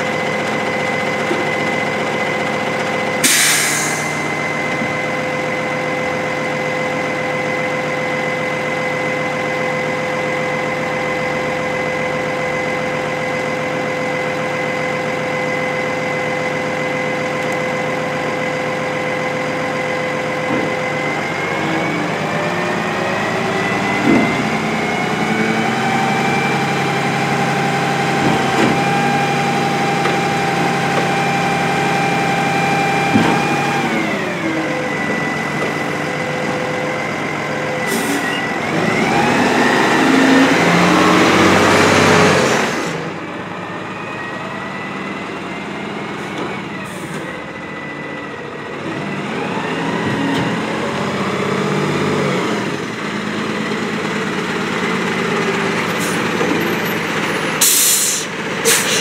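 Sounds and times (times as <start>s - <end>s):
garbage truck engine idling: 0.0s - 41.9s, 43.0s - 59.0s.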